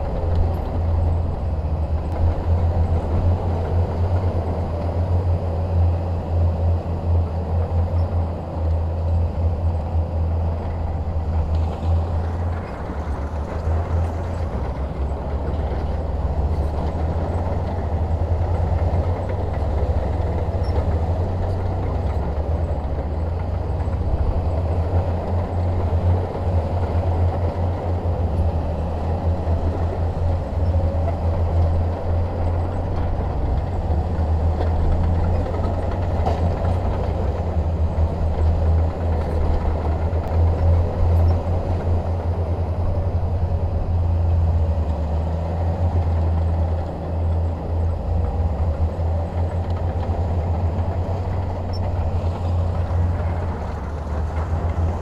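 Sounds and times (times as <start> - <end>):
bulldozer diesel engine rumbling: 0.0 - 55.0.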